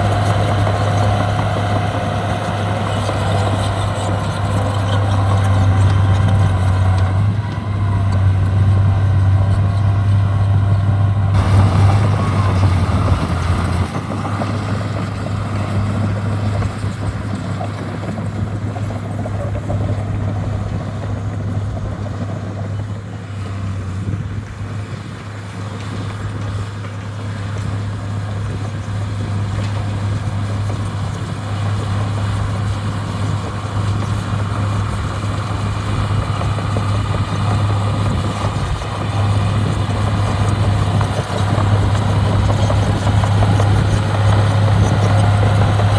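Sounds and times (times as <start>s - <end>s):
heavy machinery engine hum: 0.0s - 45.9s.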